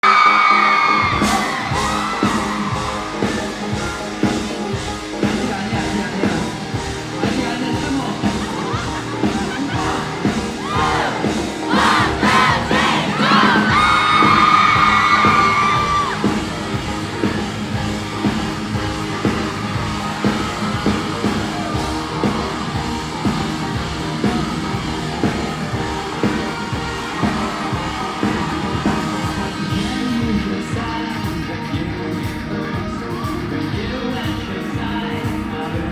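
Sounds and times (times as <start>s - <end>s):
crowd yelling: 0.0s - 35.9s
live rock band playing: 0.0s - 35.9s.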